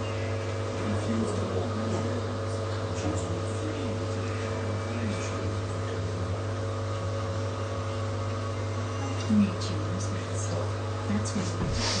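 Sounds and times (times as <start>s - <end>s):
washing machine running: 0.0s - 12.0s.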